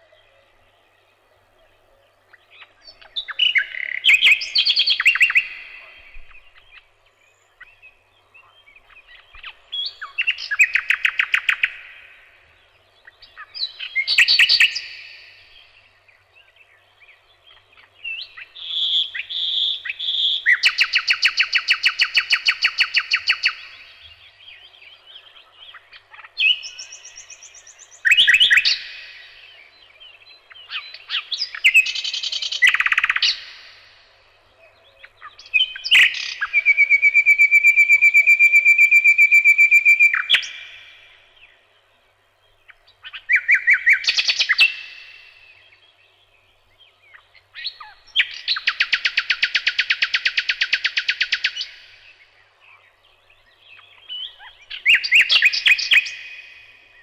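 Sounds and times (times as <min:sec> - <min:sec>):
songbird singing with trills: 0:00.0 - 0:57.0.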